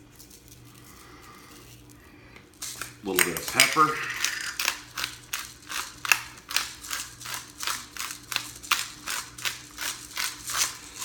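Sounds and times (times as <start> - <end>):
pepper mill grinding: 0.0 - 11.0.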